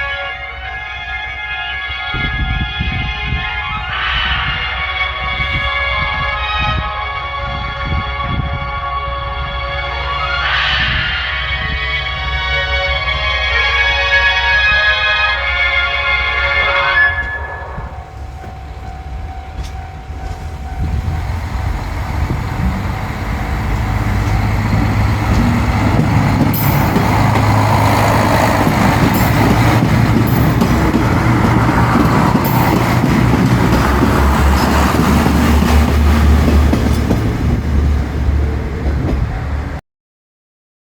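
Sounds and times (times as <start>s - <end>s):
diesel railcar engine rumble: 0.0s - 39.8s.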